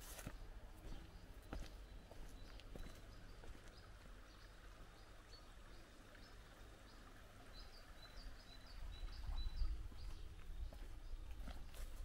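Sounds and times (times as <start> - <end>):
small songbird chirping: 0.2 - 12.0.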